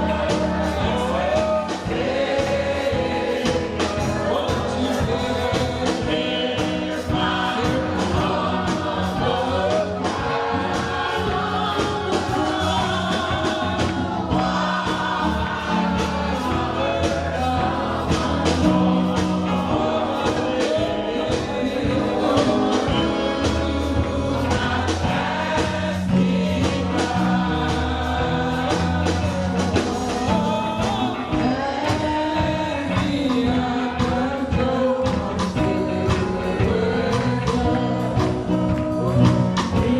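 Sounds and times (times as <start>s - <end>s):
gospel choir singing with band: 0.0s - 39.9s.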